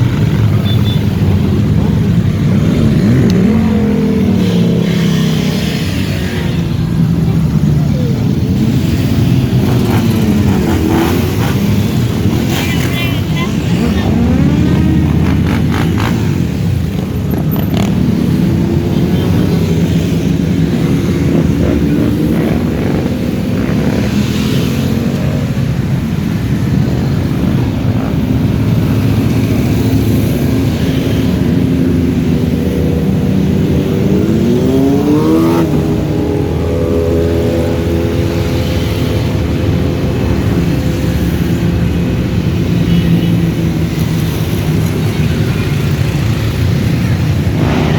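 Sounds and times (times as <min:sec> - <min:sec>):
motorcycle engine revving: 0:00.0 - 0:47.9
motorcycle engines running: 0:00.0 - 0:47.9.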